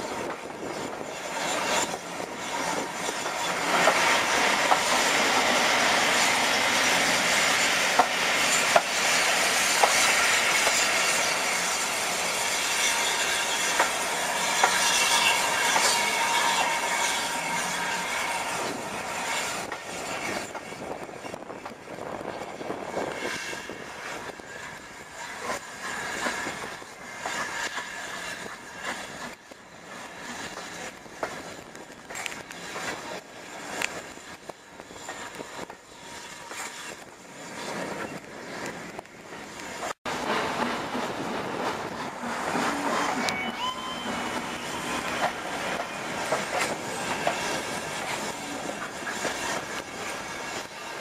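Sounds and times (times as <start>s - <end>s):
train wheel squeal: 0.0s - 51.0s.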